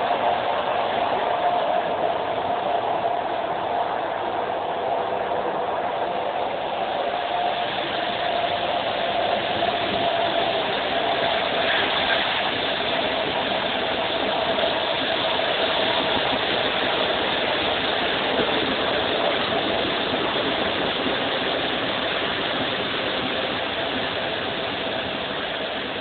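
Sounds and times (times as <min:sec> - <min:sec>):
air rushing outside train: 0:00.0 - 0:26.0
faint steady hum: 0:00.0 - 0:26.0
train wheels on rails: 0:00.0 - 0:26.0.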